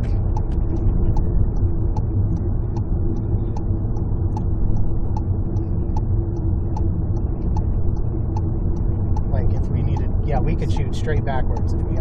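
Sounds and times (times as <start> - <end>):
turn indicator ticking: 0.0 - 12.0
vehicle engine and road rumble: 0.0 - 12.0.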